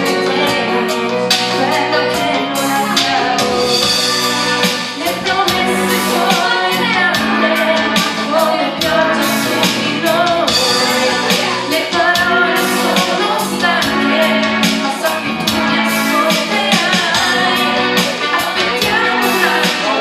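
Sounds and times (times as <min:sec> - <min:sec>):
person singing: 0:00.0 - 0:20.0
steady drum beat: 0:00.0 - 0:20.0.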